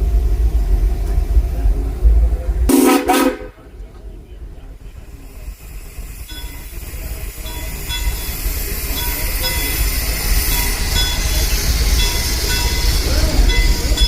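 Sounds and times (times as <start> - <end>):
steam train running on track: 0.0 - 14.0.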